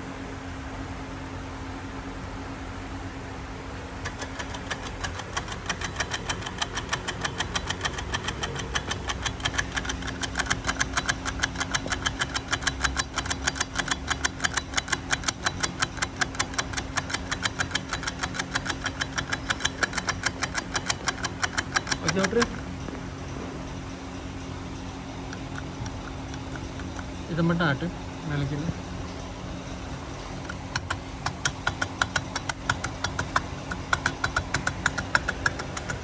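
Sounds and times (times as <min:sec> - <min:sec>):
car low hum: 0:03.0 - 0:36.0
rapid mechanical ticking: 0:03.8 - 0:36.0.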